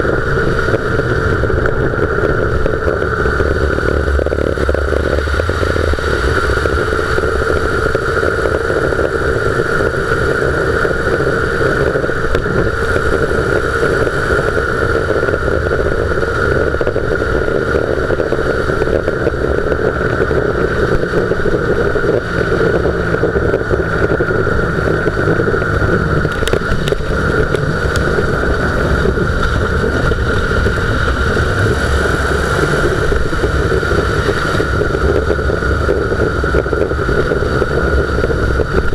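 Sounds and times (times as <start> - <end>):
tyre and road rumble: 0.0 - 38.9
wheel bearing growling: 0.0 - 38.9.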